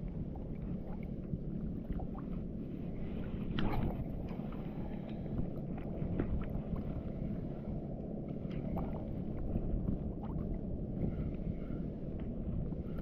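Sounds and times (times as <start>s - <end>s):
choppy water lapping: 0.0s - 13.0s
wind rumbling: 0.0s - 13.0s.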